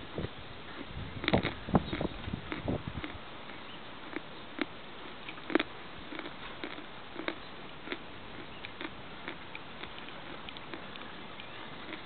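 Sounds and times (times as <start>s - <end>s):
person chewing food: 0.7s - 12.0s.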